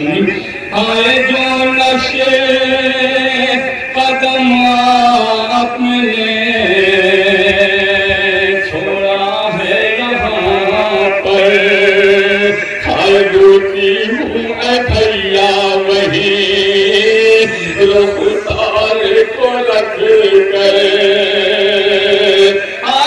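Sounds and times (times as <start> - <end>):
man chanting a lament: 0.0 - 23.0.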